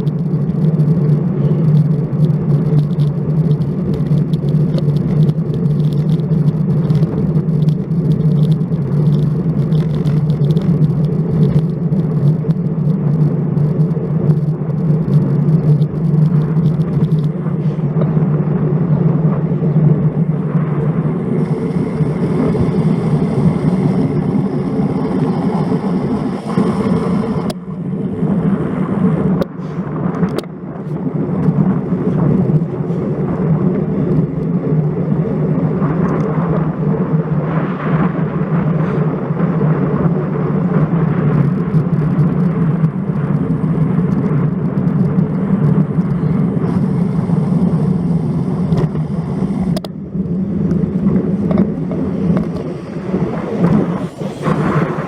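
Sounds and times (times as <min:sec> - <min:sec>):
wind and road rumble: 0:00.0 - 0:55.0.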